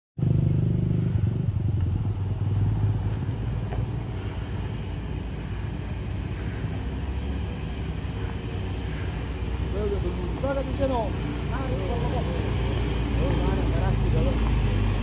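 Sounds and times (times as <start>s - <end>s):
bus diesel engine under load: 0.2s - 15.0s.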